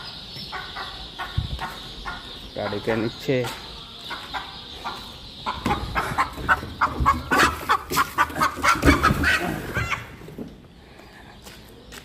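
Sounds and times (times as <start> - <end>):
hen clucking alarm calls: 0.0 - 10.4.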